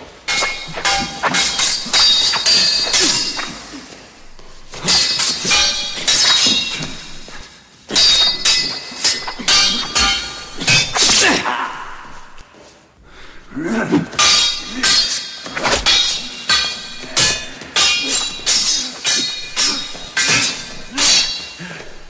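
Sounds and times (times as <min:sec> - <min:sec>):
metal swords clashing: 0:00.2 - 0:12.5, 0:13.1 - 0:22.0.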